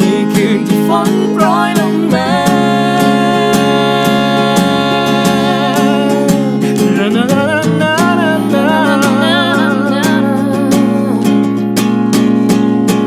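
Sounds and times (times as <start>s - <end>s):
person singing: 0.0s - 11.7s
acoustic guitar strumming: 0.0s - 13.0s.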